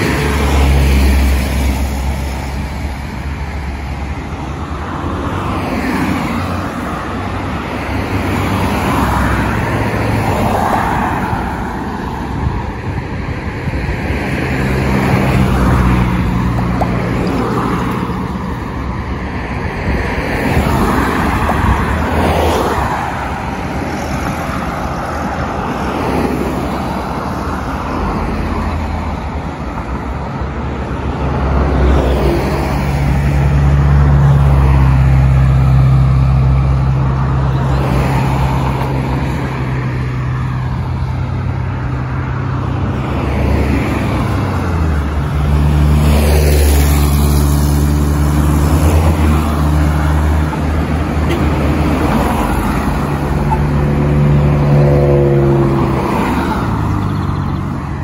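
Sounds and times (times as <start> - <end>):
cars passing: 0.0 - 58.0
low traffic rumble: 0.0 - 58.0.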